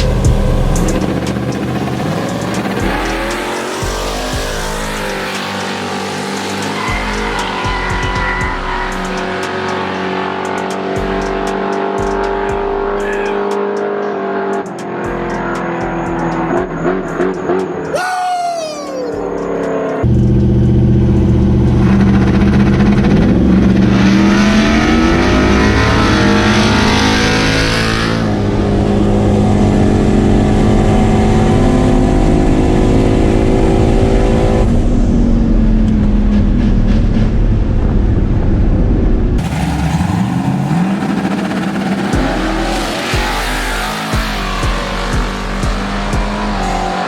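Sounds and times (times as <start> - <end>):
drag cars accelerating hard: 0.0 - 18.0, 19.0 - 47.0.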